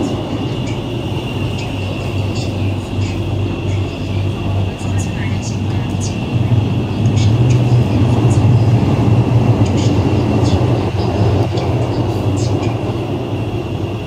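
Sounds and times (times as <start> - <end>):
metro car low rumble: 0.0 - 14.0.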